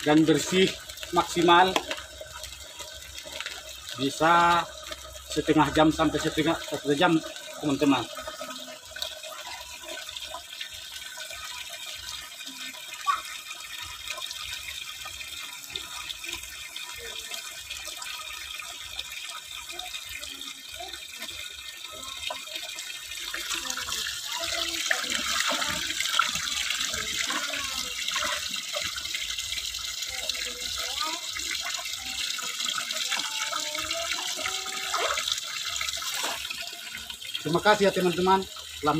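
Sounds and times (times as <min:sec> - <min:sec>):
water pouring into bucket: 0:00.0 - 0:38.9.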